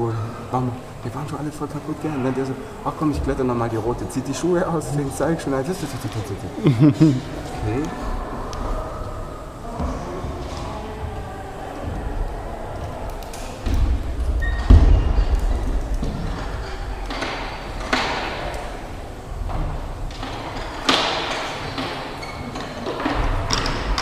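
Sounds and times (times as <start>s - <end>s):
dull thumps in echoing hall: 1.8s - 5.4s, 7.2s - 24.0s.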